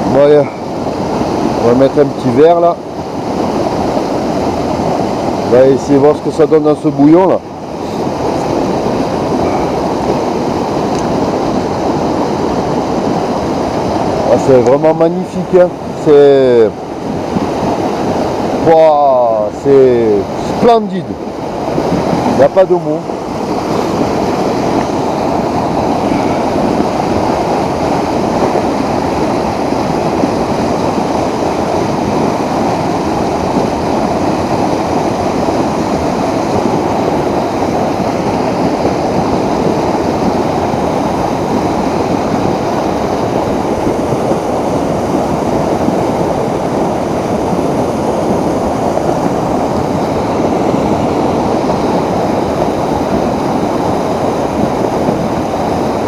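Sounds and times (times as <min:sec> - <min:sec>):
mountain torrent rushing: 0:00.0 - 0:56.0.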